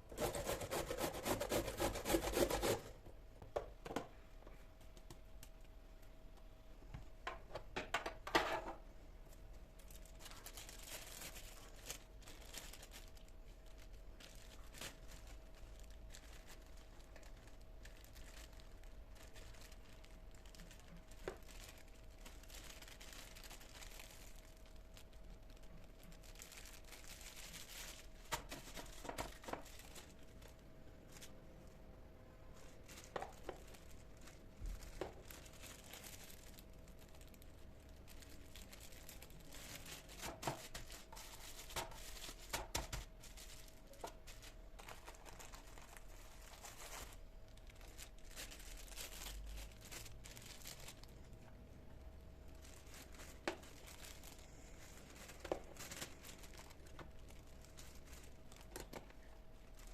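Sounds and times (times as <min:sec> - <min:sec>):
faint steady hum: 0:00.0 - 0:59.9
packaging crinkling and tearing: 0:09.8 - 0:31.4, 0:32.5 - 0:51.6, 0:52.4 - 0:59.9.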